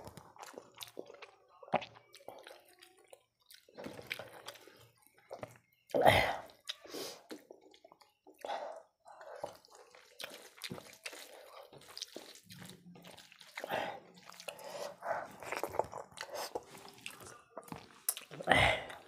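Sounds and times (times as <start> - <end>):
wet squishing of rice kneaded: 0.0 - 19.0.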